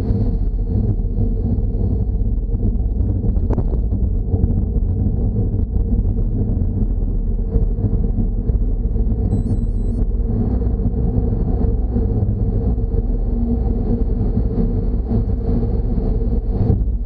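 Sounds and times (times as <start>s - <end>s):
traffic rumble echoing in tunnel: 0.0s - 17.0s.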